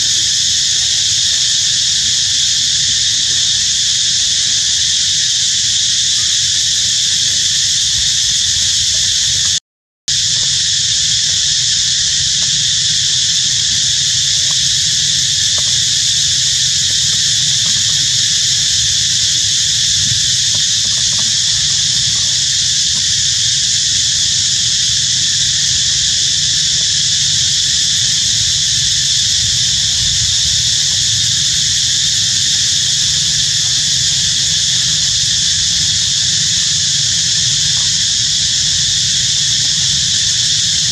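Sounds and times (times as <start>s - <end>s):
shrill insect chorus: 0.0s - 40.9s.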